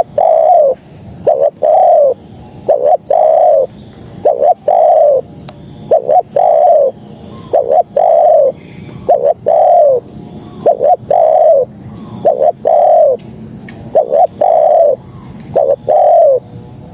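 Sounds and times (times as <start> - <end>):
dove cooing: 0.0 - 16.9.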